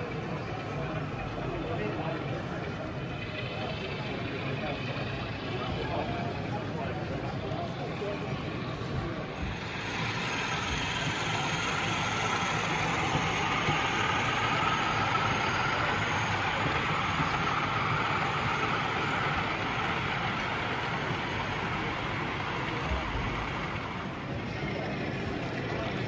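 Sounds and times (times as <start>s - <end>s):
busy exhibition hall noise: 0.0s - 26.0s
model train whirring on track: 0.0s - 26.0s.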